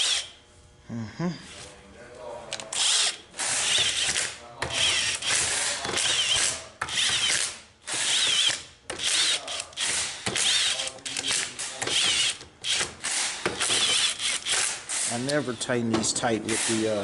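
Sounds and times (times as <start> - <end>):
impact wrench hammering: 2.7 - 17.0.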